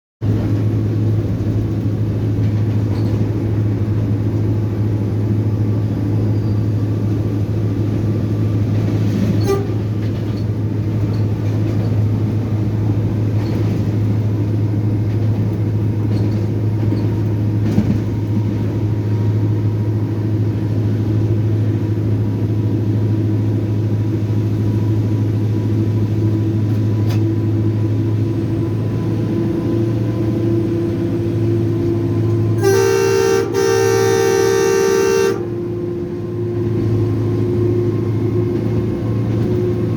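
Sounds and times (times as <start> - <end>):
locomotive engine drone: 0.2 - 39.9
rail noise: 0.2 - 39.9.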